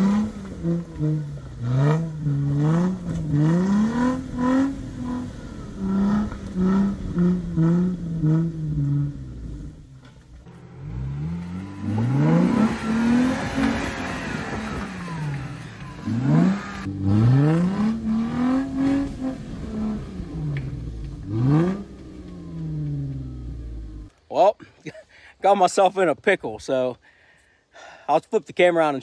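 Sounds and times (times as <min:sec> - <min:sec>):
car engine revving: 0:00.0 - 0:24.1.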